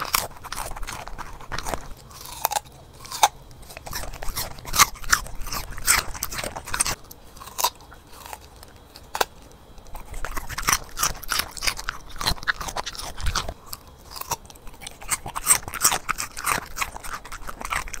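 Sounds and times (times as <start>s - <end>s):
dog crunching radish: 0.0s - 18.0s.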